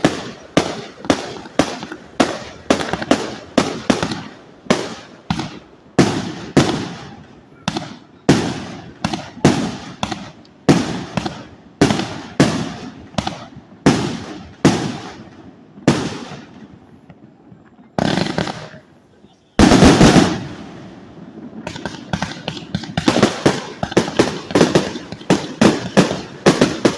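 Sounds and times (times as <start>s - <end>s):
fireworks bangs: 0.0s - 26.9s.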